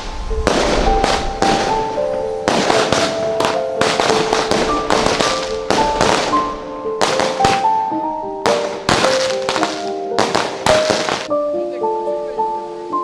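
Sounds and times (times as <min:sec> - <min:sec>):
firecrackers banging: 0:00.0 - 0:11.3.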